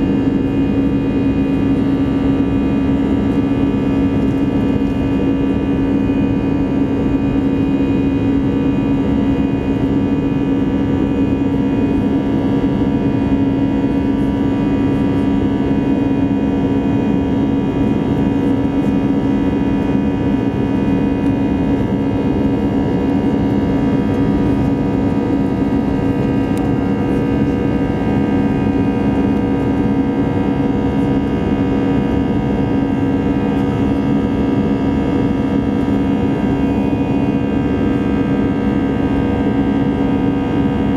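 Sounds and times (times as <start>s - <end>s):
jet engines droning in cabin: 0.0s - 40.9s.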